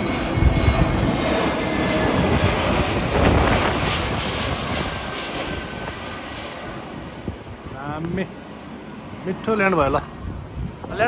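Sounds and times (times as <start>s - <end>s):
jet airliner passing overhead: 0.0s - 11.0s.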